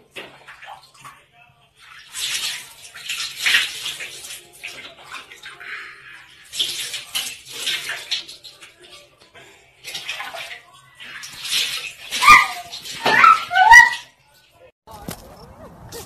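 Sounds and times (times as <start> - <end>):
water splashing in a plastic tub: 0.0 - 15.1.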